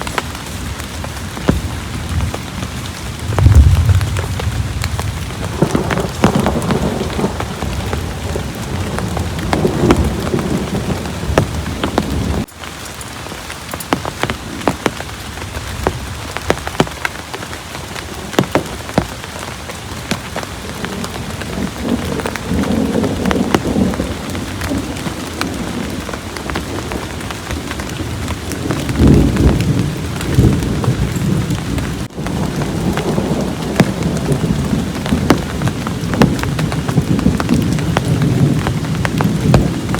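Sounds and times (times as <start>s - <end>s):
heavy rain: 0.0s - 39.9s
thunder rumbling: 0.2s - 12.5s, 17.9s - 39.9s.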